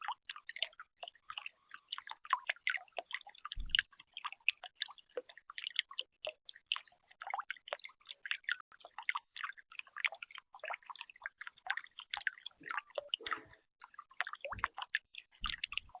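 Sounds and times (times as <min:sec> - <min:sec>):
water splashing in bird bath: 0:00.0 - 0:16.0.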